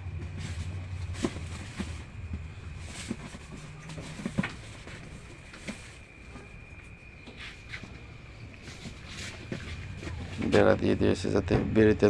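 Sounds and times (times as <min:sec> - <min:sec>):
soft shuffling: 0:00.1 - 0:11.0.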